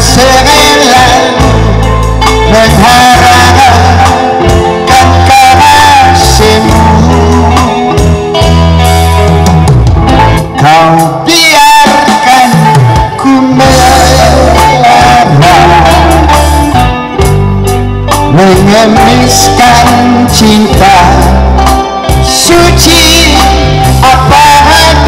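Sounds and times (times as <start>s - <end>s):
man singing: 0.0s - 8.5s, 10.1s - 16.8s, 18.2s - 25.0s
live band playing pop ballad: 0.0s - 25.0s.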